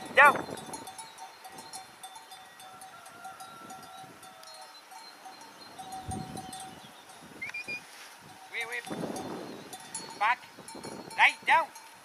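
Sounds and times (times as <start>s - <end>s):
sheep bells clinking: 0.0s - 12.0s.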